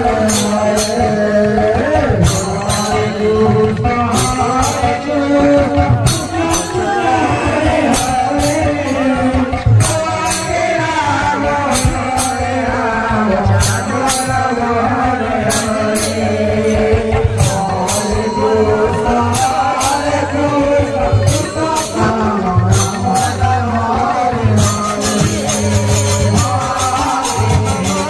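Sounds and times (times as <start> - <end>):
percussion strokes: 0.0 - 28.0
voices singing devotional song: 0.0 - 28.0.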